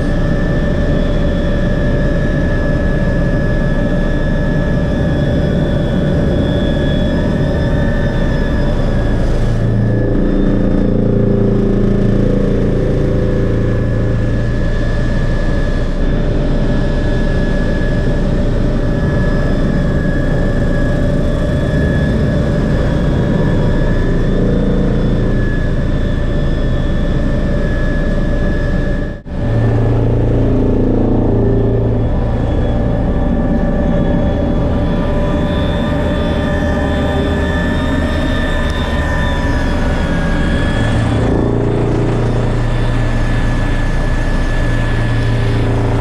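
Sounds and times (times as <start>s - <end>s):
helicopter rotor drone: 0.0s - 46.0s
turbine engine whine: 0.0s - 46.0s.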